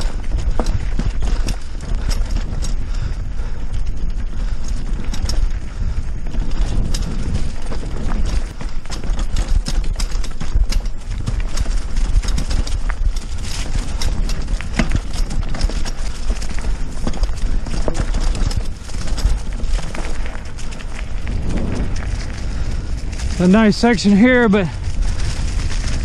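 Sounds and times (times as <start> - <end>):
bike rattling over bumps: 0.0 - 26.0
tyre and wind rumble: 0.0 - 26.0.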